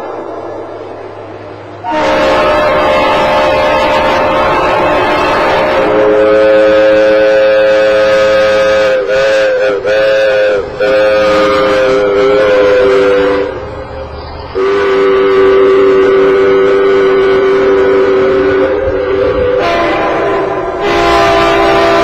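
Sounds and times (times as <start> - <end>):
locomotive air horn blasts: 1.8 - 13.6, 14.6 - 22.0.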